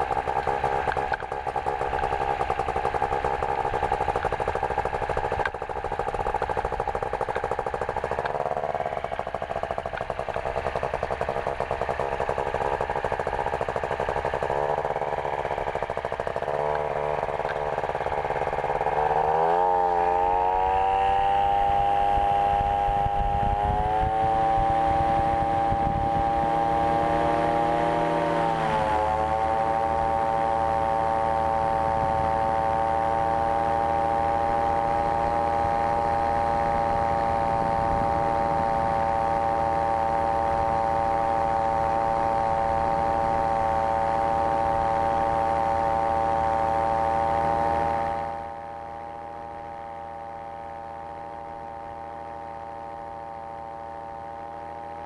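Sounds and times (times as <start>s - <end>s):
engine and propeller droning: 0.0s - 55.0s
wheels rumbling on runway: 0.0s - 55.0s.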